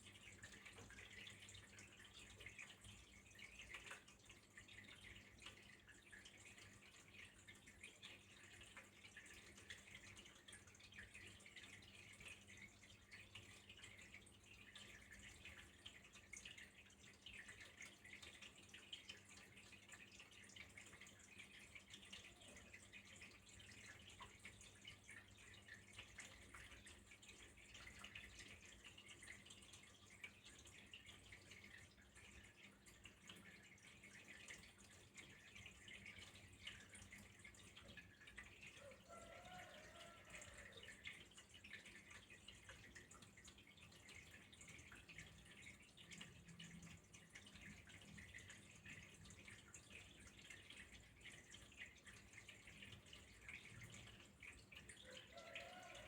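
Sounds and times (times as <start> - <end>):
trickle of running water: 0.0 - 56.0.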